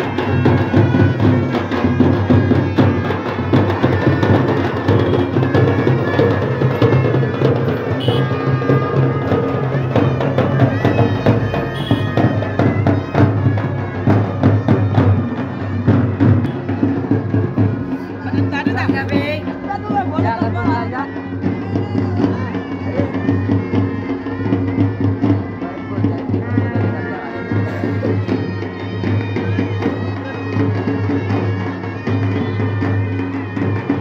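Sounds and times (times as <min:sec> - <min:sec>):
reed wind instruments droning: 0:00.0 - 0:34.0
steady drumming: 0:00.0 - 0:34.0.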